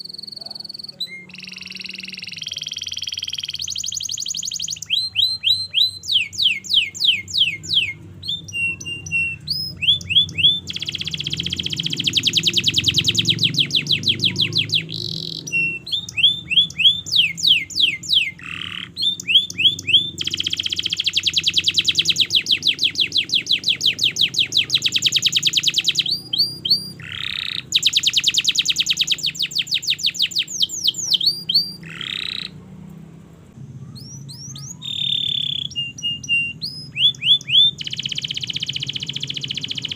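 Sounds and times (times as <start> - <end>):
canary singing with rolling trills: 0.0 - 39.9.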